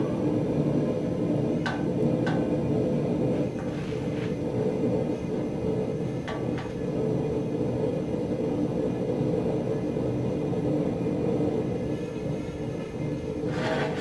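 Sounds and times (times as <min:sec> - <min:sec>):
gas forge rumbling: 0:00.0 - 0:14.0.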